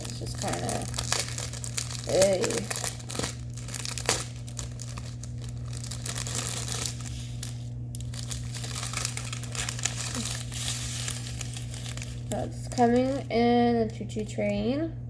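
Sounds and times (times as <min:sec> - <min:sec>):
plastic packaging crinkling: 0:00.0 - 0:13.3.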